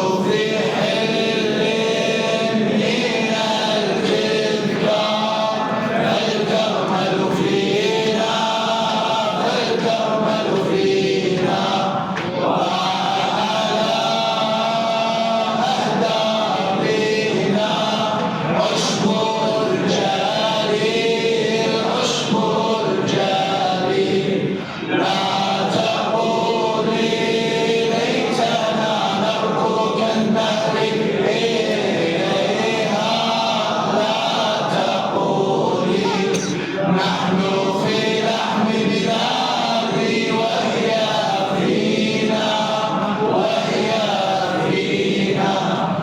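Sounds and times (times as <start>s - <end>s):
male choir chanting melody: 0.0s - 46.0s.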